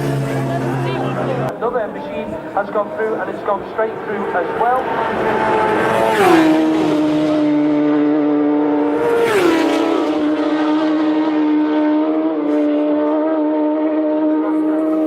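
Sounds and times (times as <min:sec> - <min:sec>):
racing motorcycles passing: 0:00.0 - 0:15.0.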